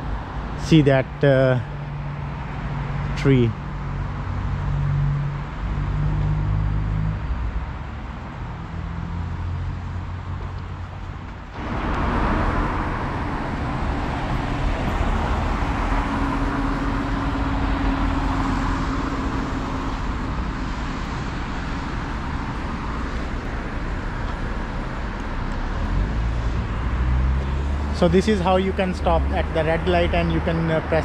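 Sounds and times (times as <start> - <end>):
cars passing on wet road: 0.0 - 31.0
steady engine hum: 0.0 - 31.0.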